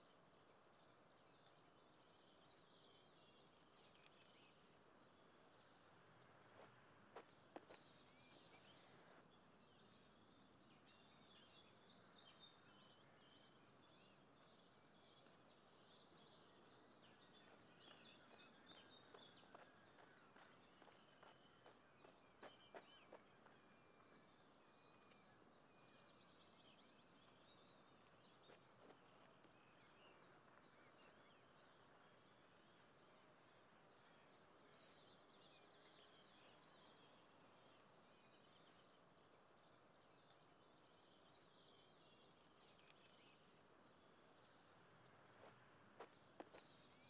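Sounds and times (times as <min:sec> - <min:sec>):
birds chirping and trilling: 0:00.2 - 0:47.0.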